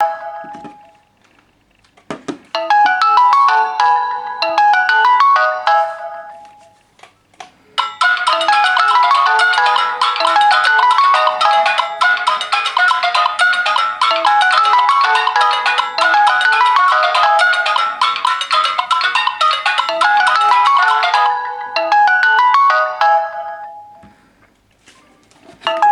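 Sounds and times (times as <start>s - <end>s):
phone ringtone melody: 0.0s - 1.1s, 2.6s - 6.9s, 7.8s - 24.2s, 25.7s - 25.9s.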